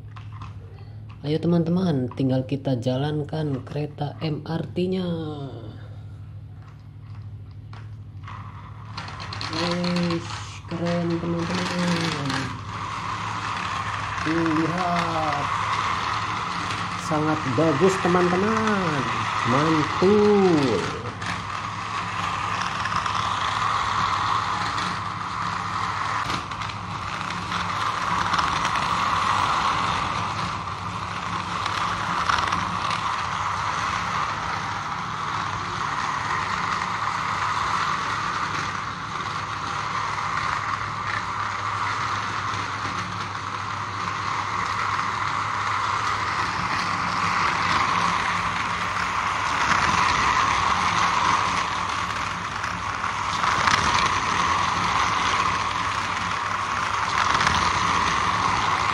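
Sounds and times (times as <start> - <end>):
toy train motor whirring: 6.6 - 58.9.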